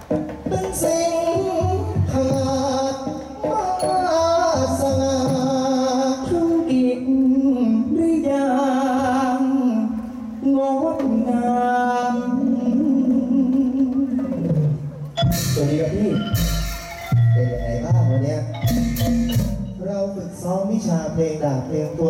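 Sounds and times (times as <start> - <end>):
person singing with vibrato: 0.4 - 20.9.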